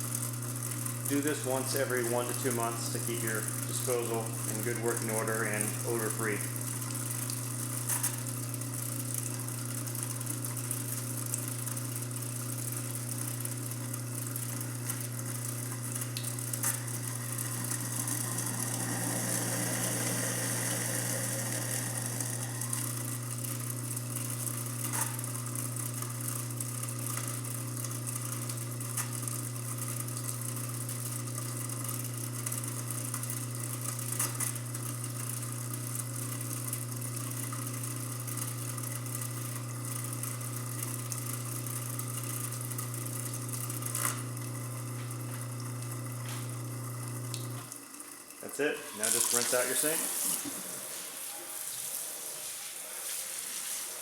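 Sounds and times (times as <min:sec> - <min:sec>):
garbage disposal motor humming: 0:00.0 - 0:52.4.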